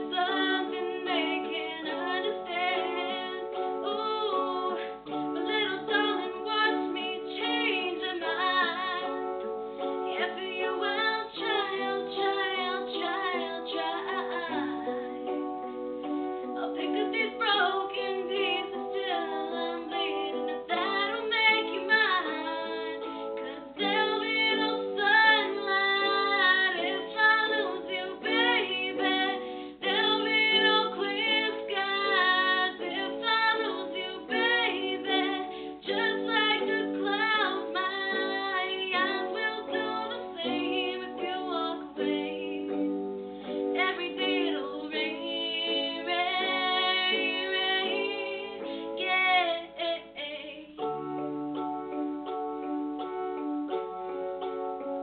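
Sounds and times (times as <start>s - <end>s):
woman singing pop ballad: 0.0s - 15.4s, 16.5s - 50.9s
plucked strings: 0.0s - 49.8s.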